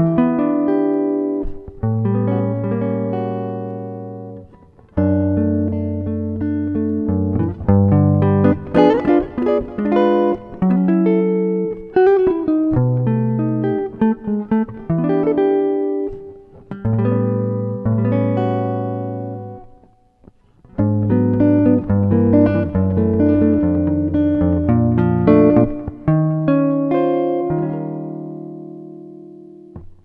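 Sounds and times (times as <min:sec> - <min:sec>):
plucked guitar music: 0:00.0 - 0:30.0.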